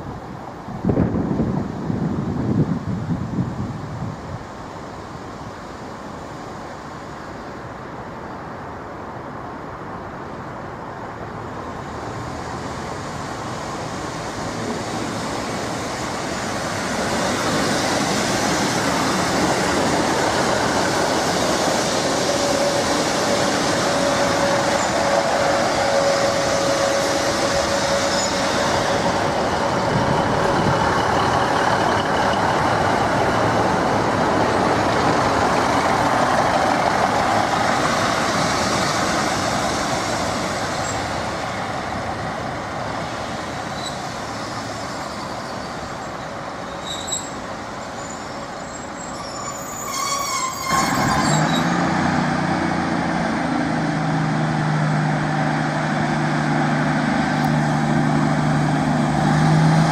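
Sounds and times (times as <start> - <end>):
train approaching: 0.0 - 59.9.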